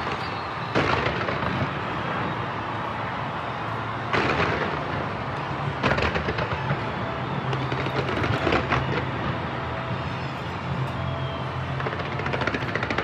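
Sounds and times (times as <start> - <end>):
fireworks bangs and crackle: 0.0 - 13.0.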